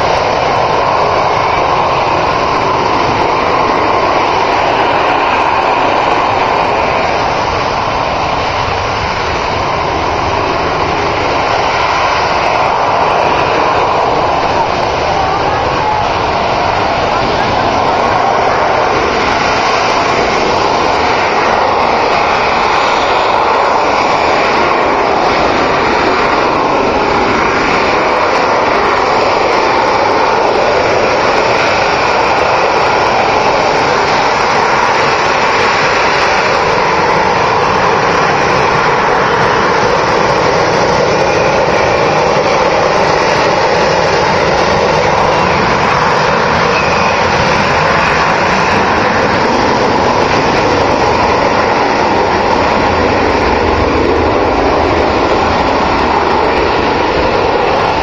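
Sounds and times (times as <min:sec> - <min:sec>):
airplane engine running: 0:00.0 - 0:58.0.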